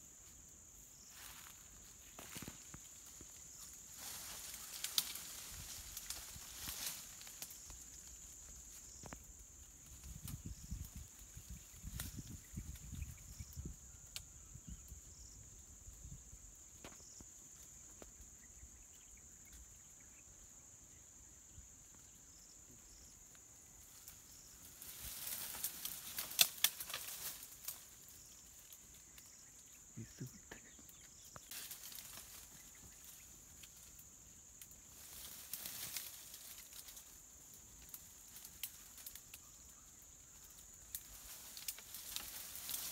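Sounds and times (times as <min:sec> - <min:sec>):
dry leaves and twigs crackling: 0:00.0 - 0:20.2, 0:21.4 - 0:42.9.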